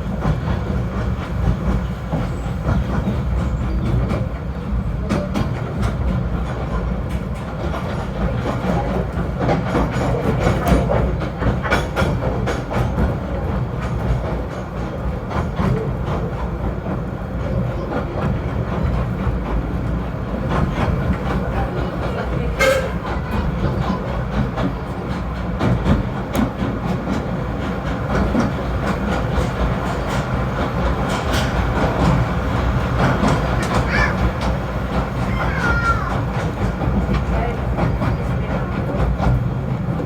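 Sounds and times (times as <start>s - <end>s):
train rumbling: 0.0s - 40.0s
wheels clicking and knocking on track: 0.0s - 40.0s.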